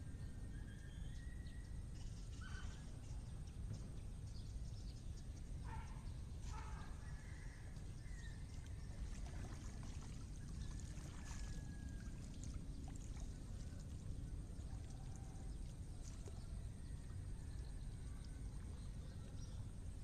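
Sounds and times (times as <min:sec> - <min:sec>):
water sloshing and trickling: 0:02.0 - 0:20.0.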